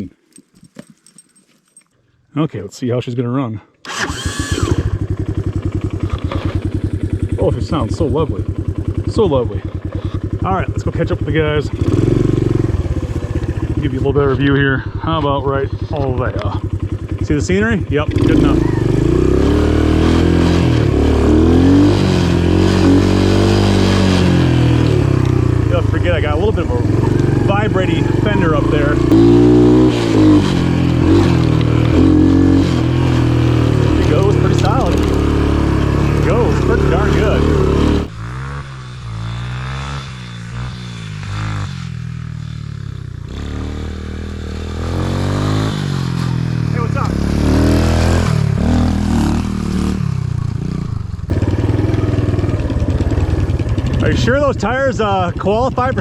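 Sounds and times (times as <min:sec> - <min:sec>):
dirt bike engine revving: 0:03.9 - 0:56.0.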